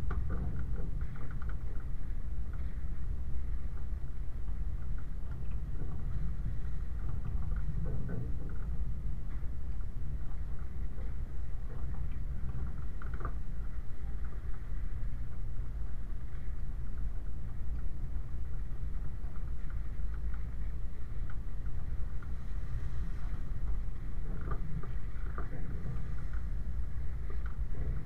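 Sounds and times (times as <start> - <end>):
small clicks and rattles: 0.0 - 28.0.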